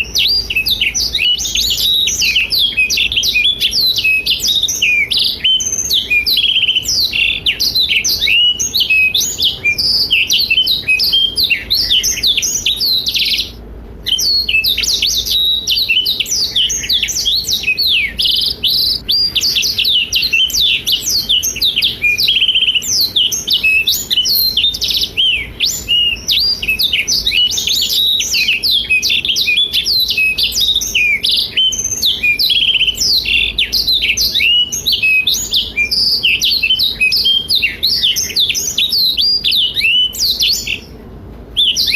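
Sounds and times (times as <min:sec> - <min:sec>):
bird twittering and trilling: 0:00.0 - 0:41.0, 0:41.6 - 0:41.9.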